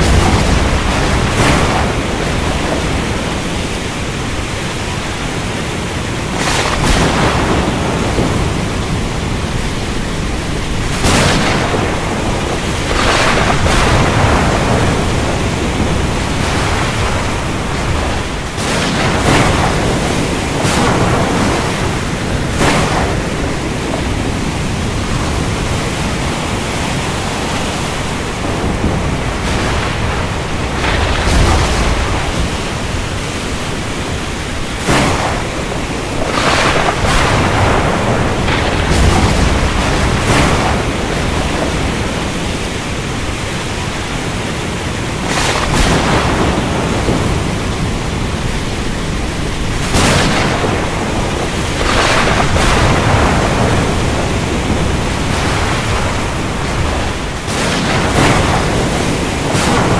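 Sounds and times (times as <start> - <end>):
heavy rain hiss: 0.0 - 59.9
low thunder rumble: 0.0 - 59.9
thunder cracks: 0.0 - 59.9.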